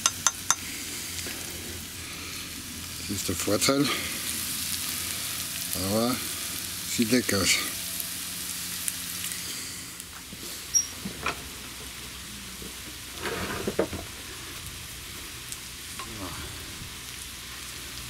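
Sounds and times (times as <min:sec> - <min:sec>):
food sizzling in frying pan: 0:00.0 - 0:18.0.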